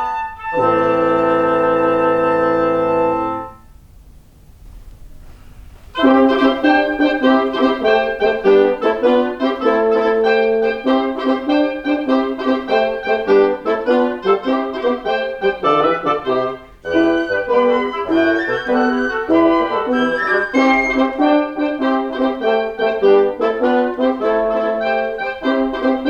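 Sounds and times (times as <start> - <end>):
woodwind quintet playing: 0.0 - 3.8, 6.0 - 26.0.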